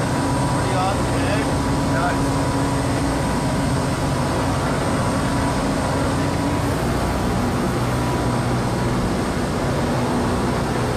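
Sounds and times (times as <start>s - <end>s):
boat engine humming: 0.0s - 10.9s.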